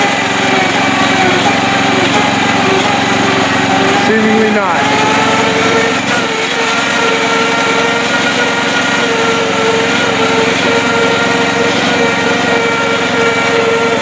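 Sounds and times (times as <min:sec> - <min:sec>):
lawn tractor engine running: 0:00.0 - 0:14.0
steady whine: 0:00.0 - 0:14.0.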